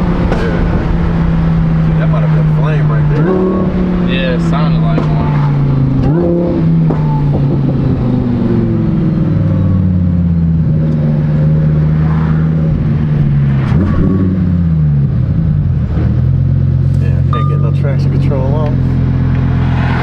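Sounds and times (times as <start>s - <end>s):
sports car engine revving: 0.0s - 20.0s.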